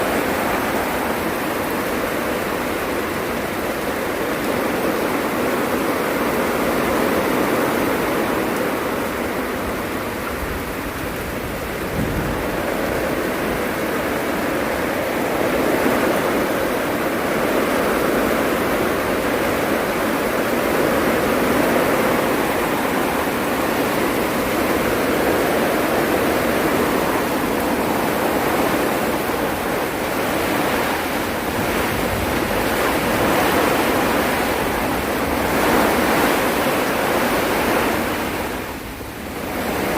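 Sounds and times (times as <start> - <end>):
heavy rain downpour: 0.0 - 39.9
strong wind gusts: 0.0 - 39.9.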